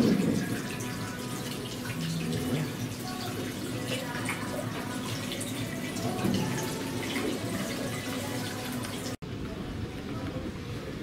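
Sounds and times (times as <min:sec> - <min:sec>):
fountain water trickling into basin: 0:00.0 - 0:09.2.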